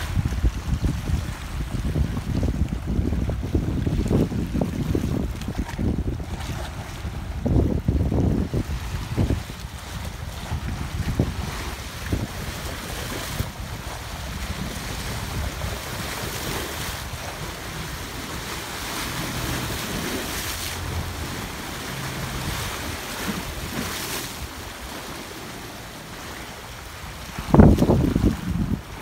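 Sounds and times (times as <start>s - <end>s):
waves washing against rocks: 0.0s - 29.0s
wind buffeting microphone: 0.0s - 29.0s.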